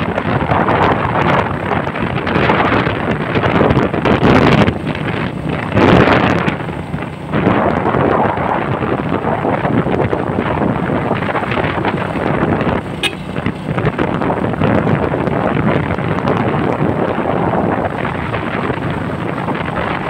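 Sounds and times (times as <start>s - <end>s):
moving vehicle noise: 0.0s - 20.0s
wind buffeting microphone: 0.0s - 20.0s.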